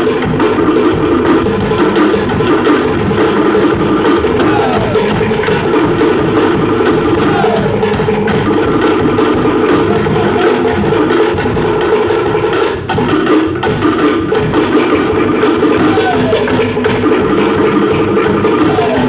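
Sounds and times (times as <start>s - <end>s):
wooden slit drums beaten with sticks: 0.0s - 19.0s.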